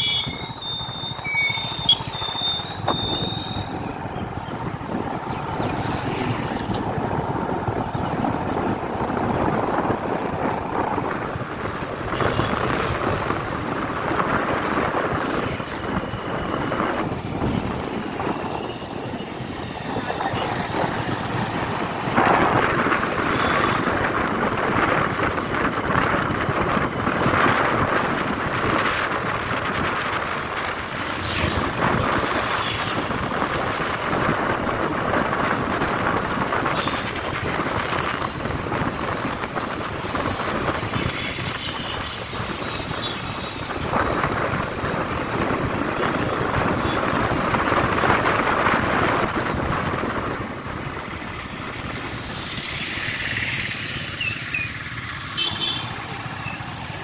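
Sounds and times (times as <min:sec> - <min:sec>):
motorcycle road noise: 0:00.0 - 0:57.0
passing vehicles: 0:00.0 - 0:57.0
wind on microphone: 0:01.9 - 0:53.1.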